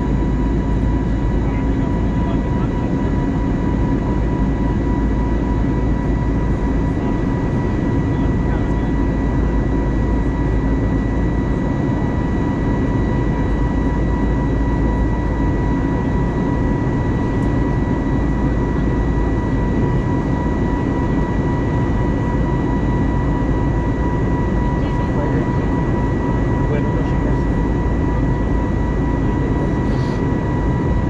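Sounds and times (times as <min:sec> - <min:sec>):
airplane cabin engine rush: 0:00.0 - 0:31.0
constant high whine: 0:00.0 - 0:31.0.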